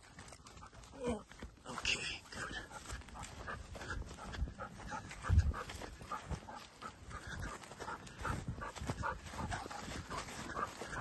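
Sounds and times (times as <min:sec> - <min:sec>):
dog panting: 0:00.1 - 0:01.0, 0:02.3 - 0:11.0.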